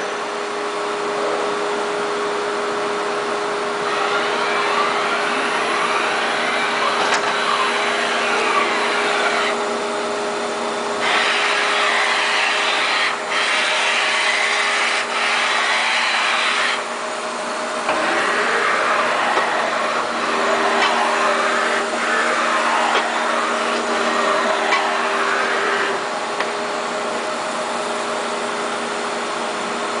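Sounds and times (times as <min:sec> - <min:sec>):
machine whine: 0:00.0 - 0:30.0.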